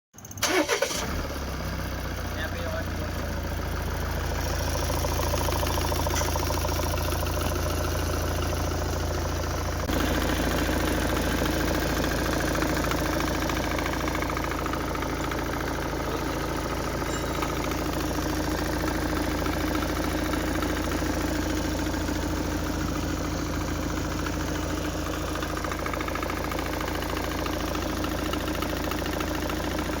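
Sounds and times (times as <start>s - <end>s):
car engine idling: 0.2s - 30.0s.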